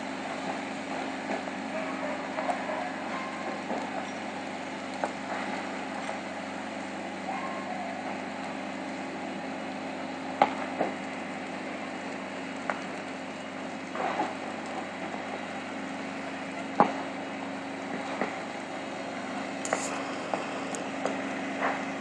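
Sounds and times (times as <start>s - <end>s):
distant building fire din: 0.0s - 22.0s
small explosions popping: 0.2s - 7.1s, 8.0s - 22.0s.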